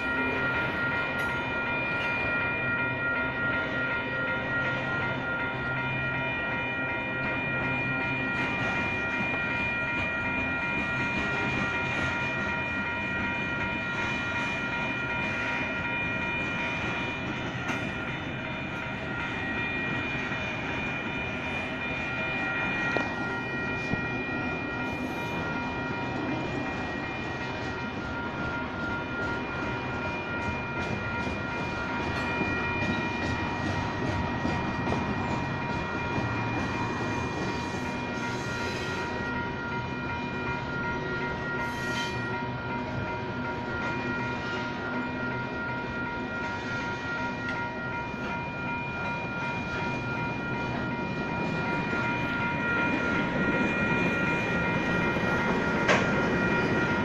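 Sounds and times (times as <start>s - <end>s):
crossing bells ringing: 0.0s - 57.0s
train wheels rumbling on rails: 0.0s - 57.0s.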